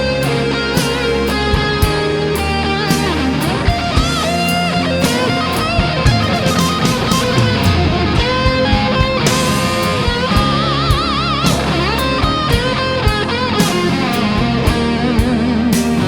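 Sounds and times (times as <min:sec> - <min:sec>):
bass: 0:00.0 - 0:16.0
drums: 0:00.0 - 0:16.0
electric guitar lead notes: 0:00.0 - 0:16.0.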